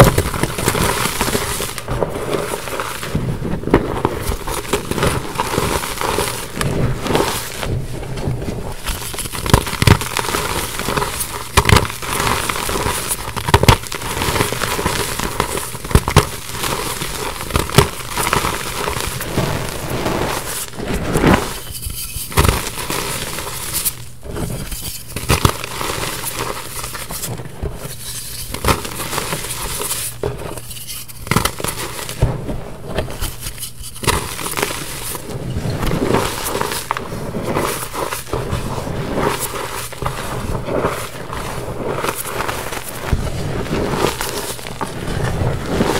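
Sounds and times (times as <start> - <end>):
hands crunching chalk: 0.0 - 45.9.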